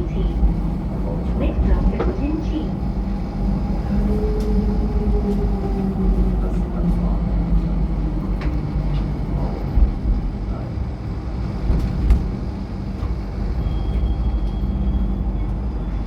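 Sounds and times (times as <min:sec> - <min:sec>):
train rumble on track: 0:00.0 - 0:16.0.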